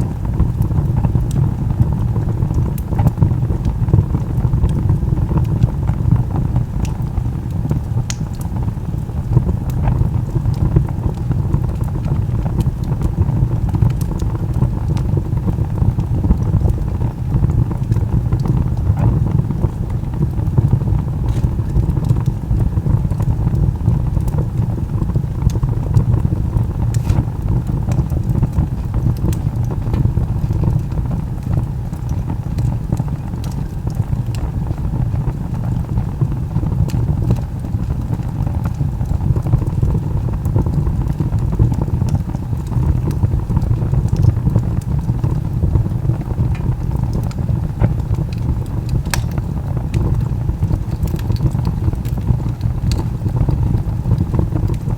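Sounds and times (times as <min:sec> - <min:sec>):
fire roaring: 0:00.0 - 0:54.9
logs crackling and popping: 0:00.0 - 0:54.9.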